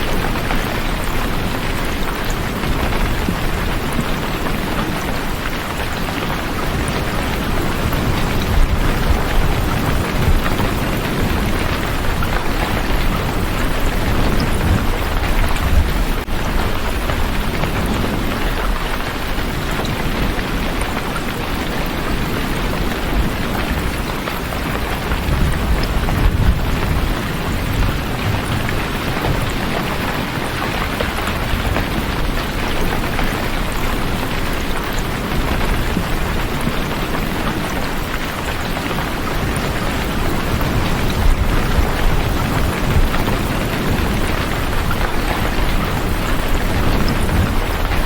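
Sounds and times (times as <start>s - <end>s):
heavy rain: 0.0s - 48.0s.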